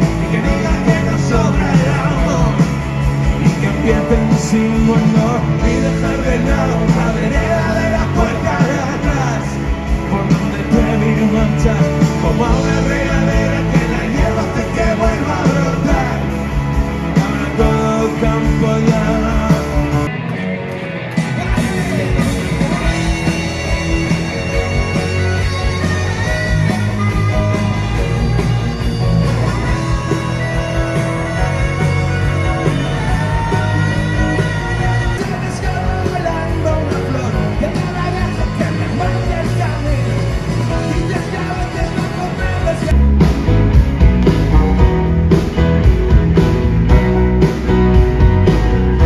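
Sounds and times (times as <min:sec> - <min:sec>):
steady drum beat: 0:00.0 - 0:20.1, 0:21.3 - 0:49.0
live rock band playing: 0:00.0 - 0:49.0.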